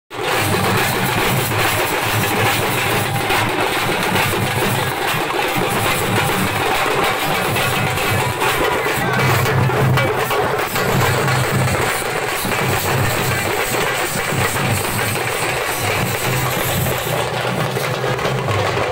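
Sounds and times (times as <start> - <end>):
barrel drums beating: 0.1 - 18.9
frame drums struck with sticks: 0.1 - 18.9.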